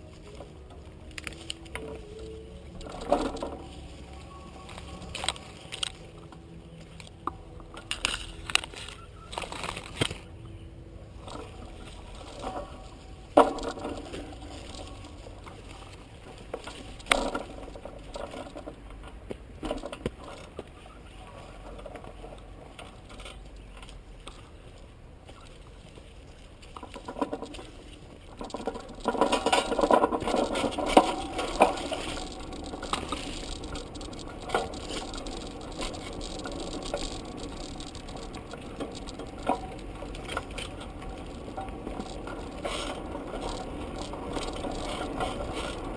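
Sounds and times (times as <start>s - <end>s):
bicycle rattling on dirt trail: 0.0s - 45.9s.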